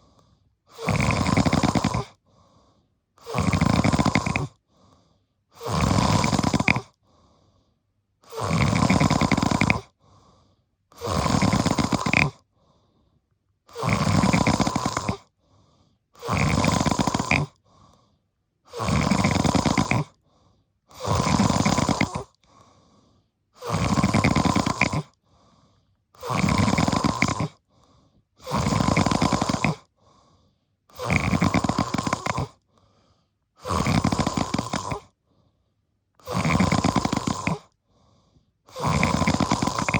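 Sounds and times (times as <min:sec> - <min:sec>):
deep rhythmic snoring: 0:00.0 - 0:39.9.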